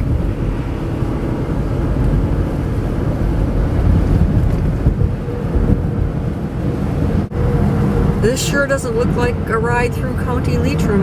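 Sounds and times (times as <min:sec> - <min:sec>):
car driving at freeway speed: 0:00.0 - 0:11.0.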